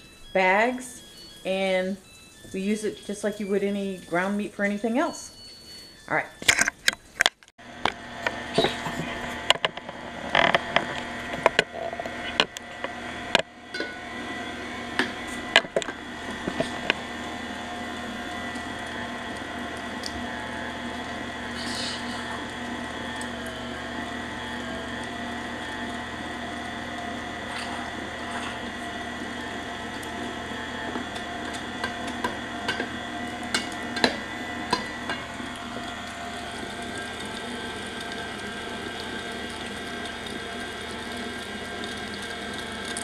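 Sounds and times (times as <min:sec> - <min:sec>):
mixer motor whine: 0:00.0 - 0:43.0.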